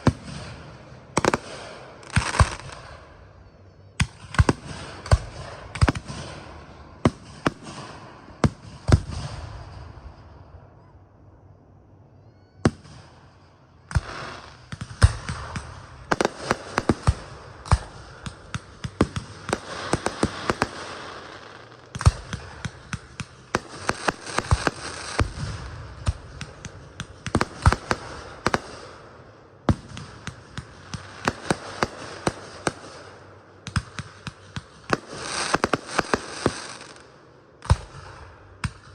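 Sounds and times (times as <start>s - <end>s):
fireworks crackling: 0.0s - 9.9s, 13.9s - 38.9s
fireworks bangs: 0.0s - 10.9s, 12.6s - 38.9s.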